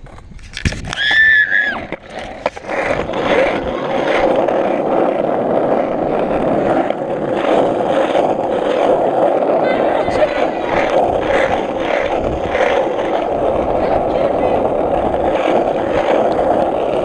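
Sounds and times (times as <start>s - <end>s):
skateboard wheels rolling on asphalt: 0.0s - 17.0s.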